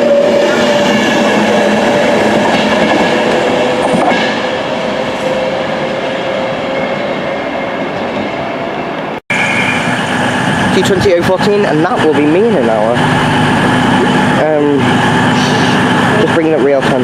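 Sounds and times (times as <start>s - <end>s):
train wheel and rail noise: 0.0s - 17.0s
train whine: 0.0s - 17.0s.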